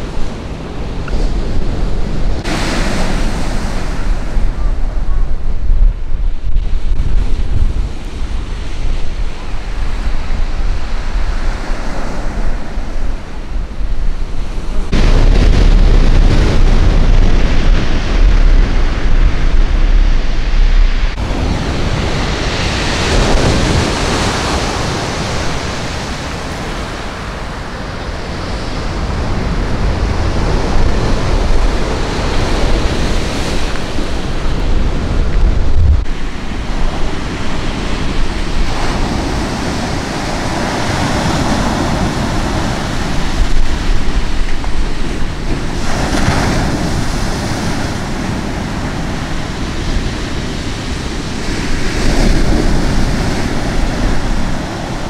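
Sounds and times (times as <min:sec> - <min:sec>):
sea waves breaking on beach: 0:00.0 - 0:05.4, 0:06.5 - 0:55.0
wind buffeting microphone: 0:00.0 - 0:55.0.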